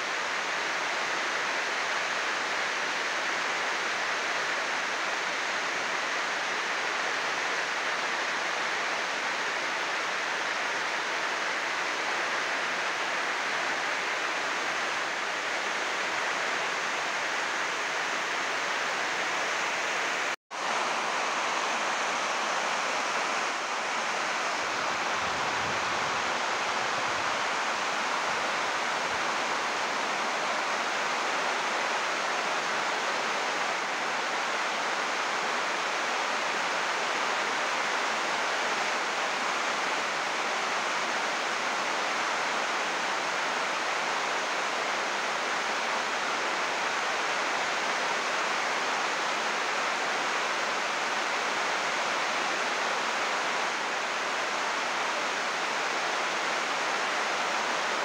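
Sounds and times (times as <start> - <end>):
heavy rain on plastic roof: 0.0 - 58.0.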